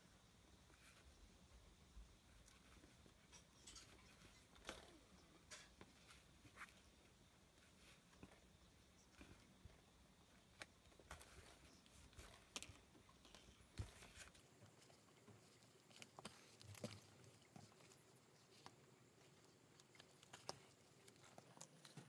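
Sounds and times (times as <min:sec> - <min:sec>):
needle and thread through leather: 0:00.0 - 0:22.0.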